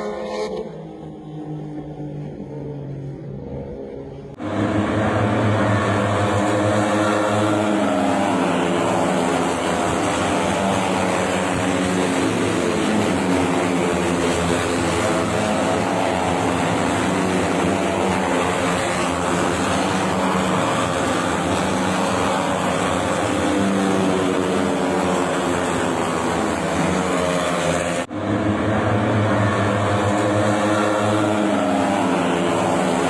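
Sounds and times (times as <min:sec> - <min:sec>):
racing motorcycle engine at high revs: 0:04.4 - 0:33.0.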